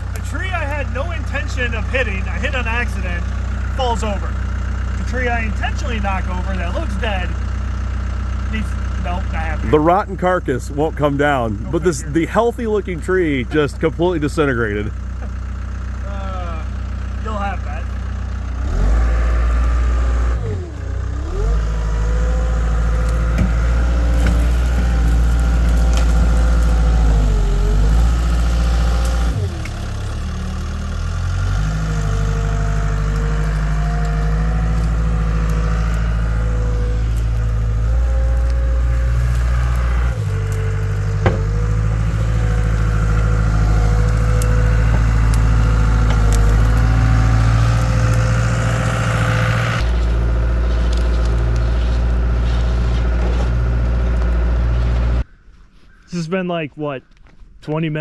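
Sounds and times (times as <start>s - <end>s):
diesel engine running: 0.0s - 55.3s.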